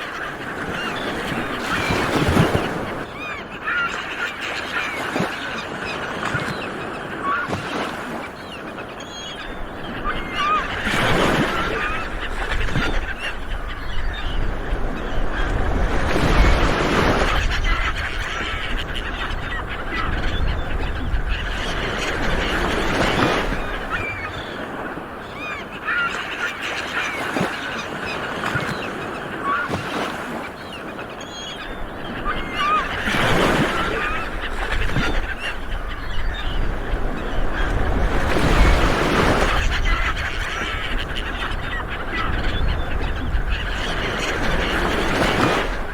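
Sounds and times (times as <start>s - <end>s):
birds calling: 0.0s - 45.9s.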